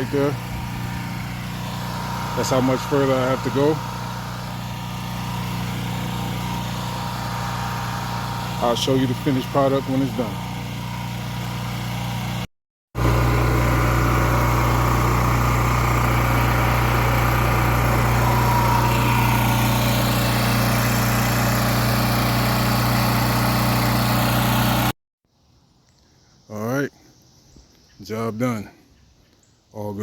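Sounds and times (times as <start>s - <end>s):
pressure washer engine running: 0.0s - 24.9s.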